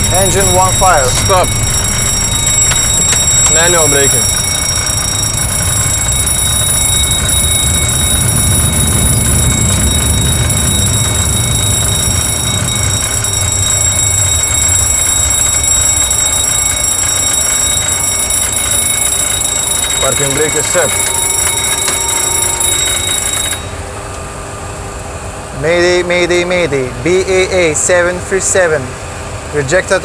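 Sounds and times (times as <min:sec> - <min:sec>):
fire warning bell ringing: 0:00.0 - 0:29.0.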